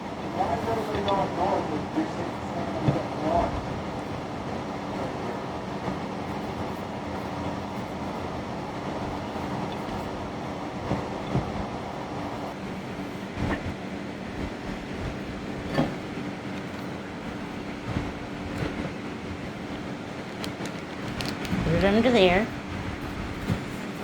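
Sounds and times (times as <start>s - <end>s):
mechanical hum with low drone: 0.0s - 24.0s.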